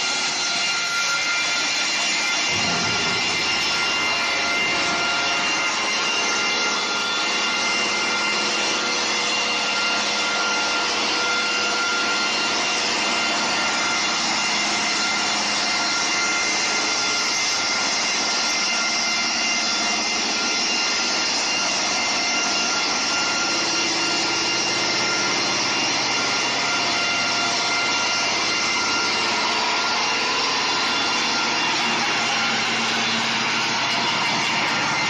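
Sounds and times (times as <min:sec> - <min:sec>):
cross-cut saw machine running: 0:00.0 - 0:35.0
high whining tones: 0:00.0 - 0:35.0.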